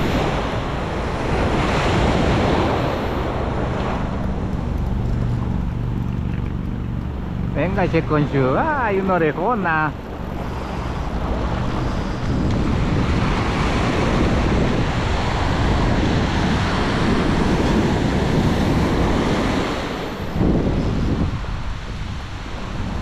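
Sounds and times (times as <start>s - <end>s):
surf breaking on sand: 0.0s - 5.7s, 7.0s - 23.0s
wind noise on microphone: 0.0s - 23.0s.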